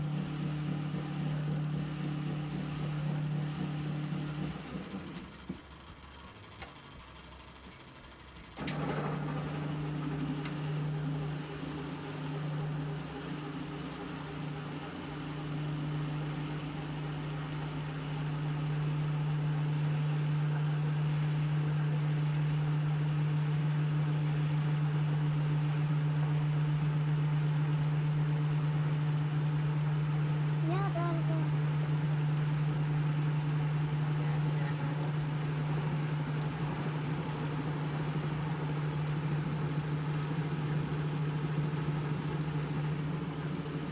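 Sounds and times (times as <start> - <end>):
washing machine motor humming: 0.0 - 5.4, 8.6 - 43.9.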